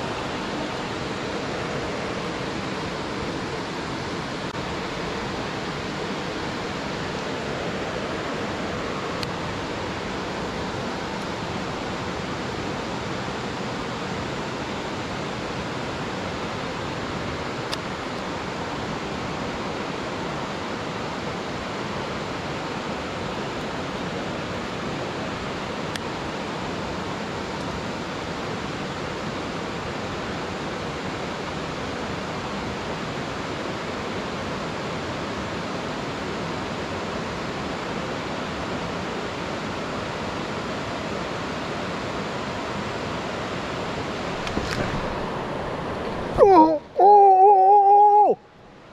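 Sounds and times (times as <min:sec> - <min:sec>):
water rushing over dam: 0:00.0 - 0:48.9.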